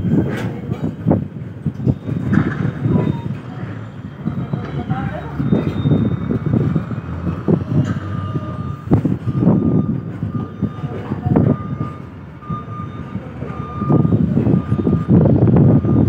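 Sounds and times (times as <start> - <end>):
engine rumble: 0.0 - 16.0
reversing alarm beeping: 0.0 - 16.0.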